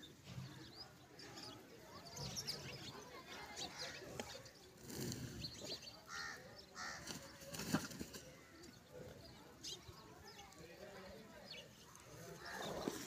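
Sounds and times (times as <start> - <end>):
bird calls: 0.0 - 13.0.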